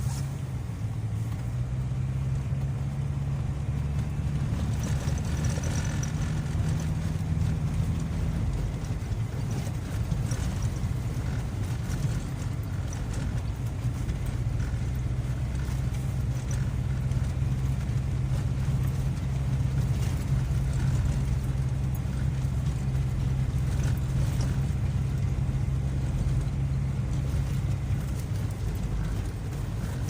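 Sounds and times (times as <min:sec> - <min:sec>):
vehicle engine running low: 0:00.0 - 0:30.0.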